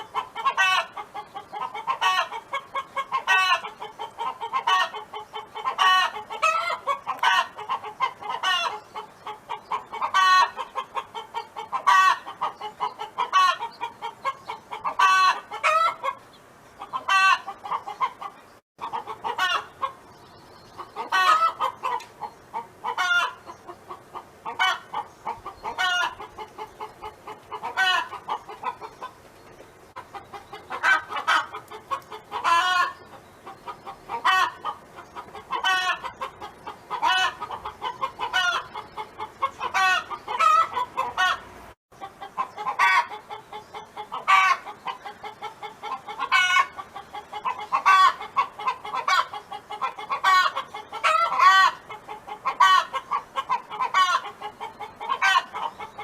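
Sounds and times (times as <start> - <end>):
hen clucking: 0.0 - 56.0.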